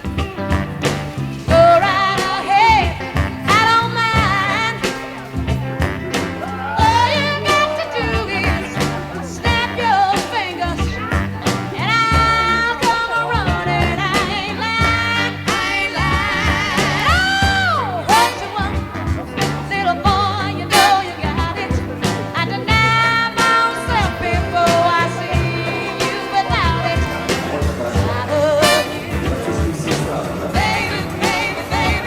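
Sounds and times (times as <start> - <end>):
band with beat and bass: 0.0 - 32.0
person singing: 1.5 - 32.0.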